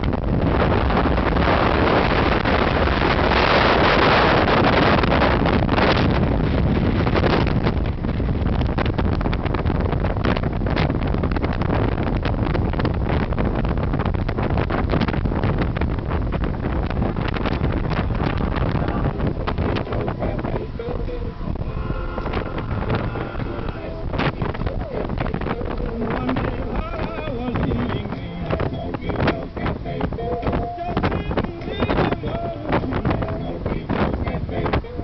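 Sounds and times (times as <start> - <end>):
car road noise: 0.0 - 35.0
wind buffeting microphone: 0.0 - 35.0.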